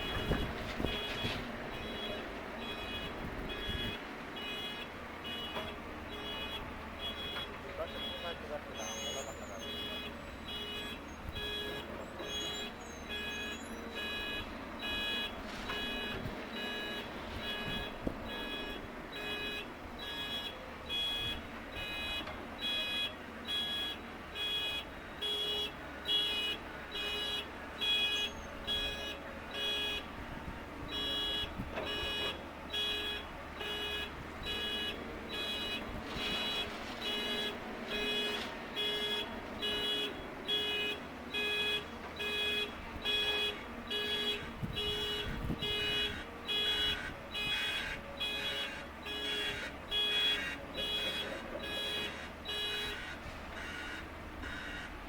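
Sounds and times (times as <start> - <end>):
reversing alarm beeping: 0.0 - 30.1, 30.8 - 53.0
diesel engine running: 0.0 - 55.0.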